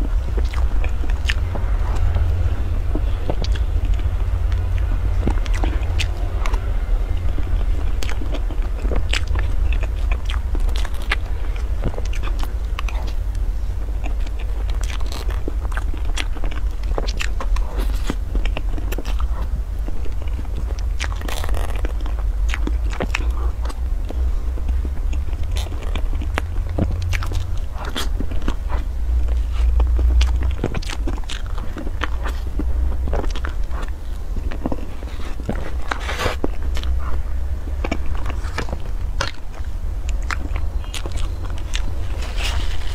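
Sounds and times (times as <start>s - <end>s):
person biting and chewing: 0.0s - 42.9s
steady low hum: 0.0s - 42.9s.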